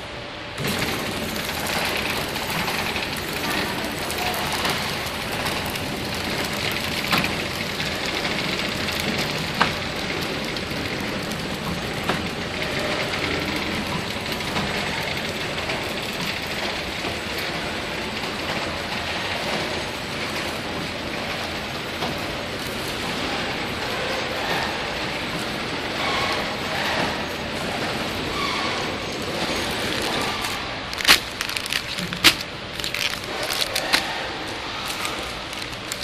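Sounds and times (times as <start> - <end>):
packaging machine whirring: 0.5 - 36.0.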